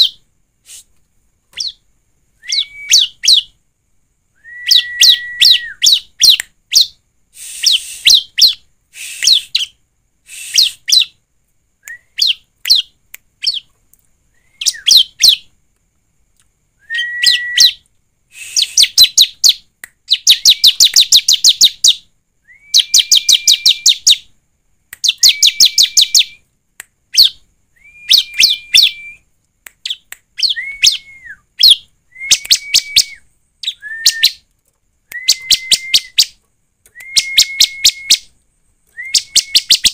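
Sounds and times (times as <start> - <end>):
bird singing: 0.0 - 0.3, 1.5 - 3.6, 4.3 - 8.7, 10.5 - 11.2, 11.8 - 15.6, 16.8 - 24.3, 25.0 - 26.5, 27.1 - 29.2, 29.8 - 39.9.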